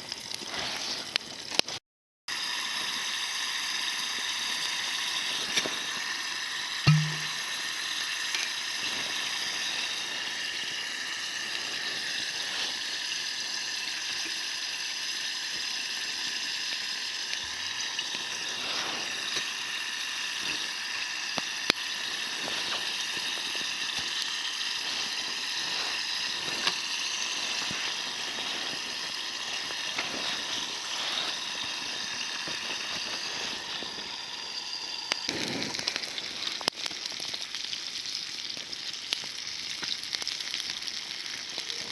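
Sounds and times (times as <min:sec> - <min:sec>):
fire popping and crackling: 0:00.0 - 0:01.8, 0:08.3 - 0:41.9
meat sizzling over campfire: 0:00.0 - 0:41.9.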